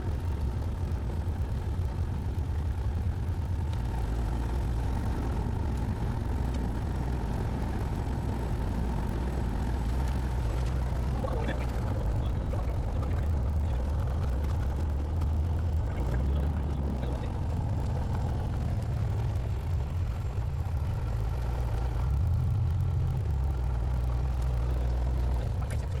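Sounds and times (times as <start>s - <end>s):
aircraft engine and propeller drone: 0.0s - 26.0s.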